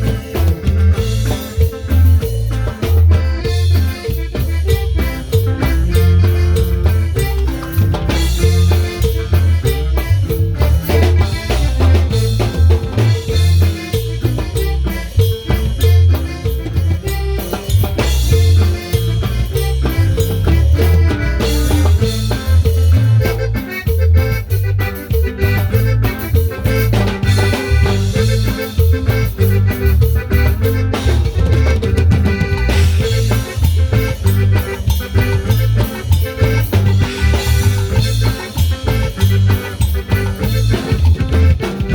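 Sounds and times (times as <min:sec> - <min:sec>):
drum kit beat: 0:00.0 - 0:41.9
heavy bass line: 0:00.0 - 0:41.9.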